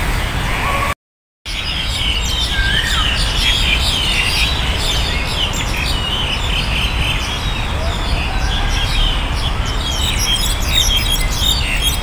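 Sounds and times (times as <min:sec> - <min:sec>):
songbirds chirping: 0:01.5 - 0:12.0.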